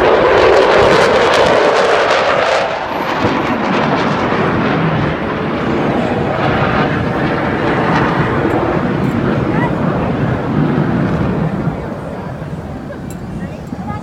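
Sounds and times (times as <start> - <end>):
fighter jet engines roaring: 0.0 - 14.0.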